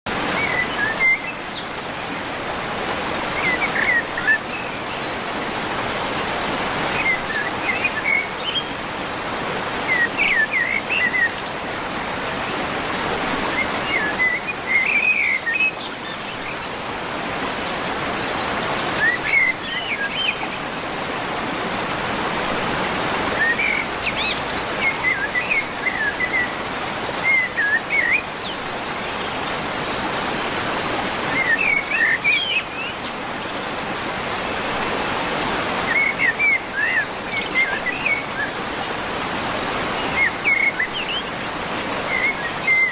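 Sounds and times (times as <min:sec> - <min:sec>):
birds chirping: 0:00.1 - 0:42.9.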